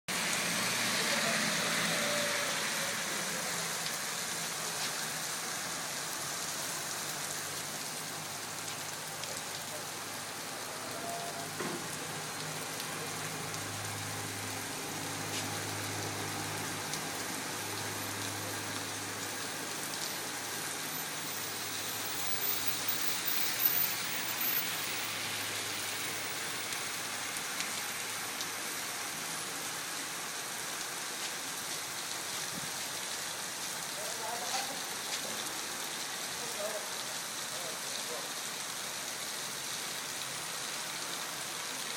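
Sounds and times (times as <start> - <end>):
steady rain falling: 0.1 - 41.9.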